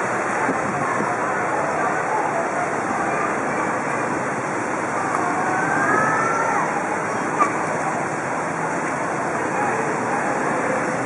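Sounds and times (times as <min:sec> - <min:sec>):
harsh wind noise on microphone: 0:00.0 - 0:11.0
vehicles driving through flood water: 0:00.0 - 0:11.0.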